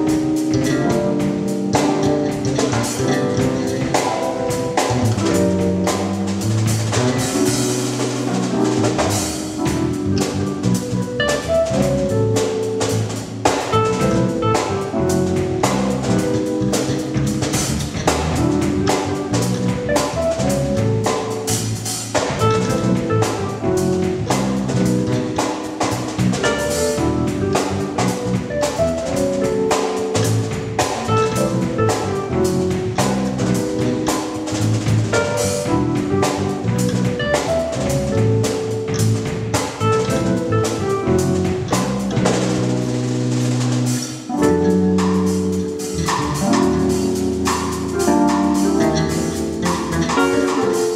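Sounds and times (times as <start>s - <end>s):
bass: 0.0s - 50.9s
drum kit playing gospel groove: 0.0s - 50.9s
keyboard chords: 0.0s - 50.9s.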